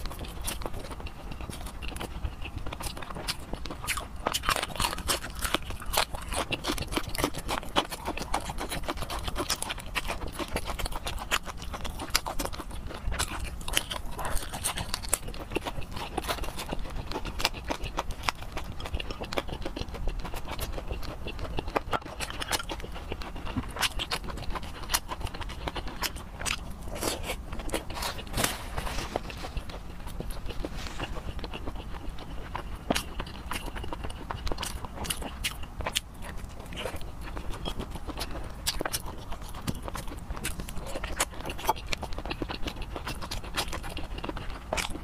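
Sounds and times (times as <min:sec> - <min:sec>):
wet chewing and lip-smacking: 0:00.0 - 0:45.0.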